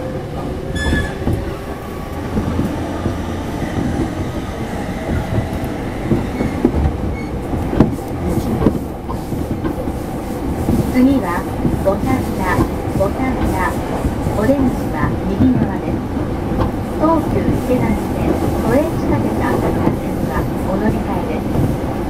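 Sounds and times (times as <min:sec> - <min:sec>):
train wheels rumbling on rail: 0:00.0 - 0:22.0
clacks over rail joints: 0:00.2 - 0:21.8.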